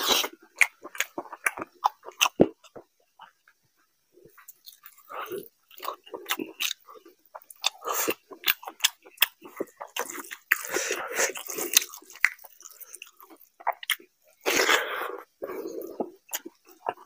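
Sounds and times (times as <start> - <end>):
wet chewing and lip-smacking: 0.0 - 3.4, 4.3 - 14.7, 15.5 - 17.0.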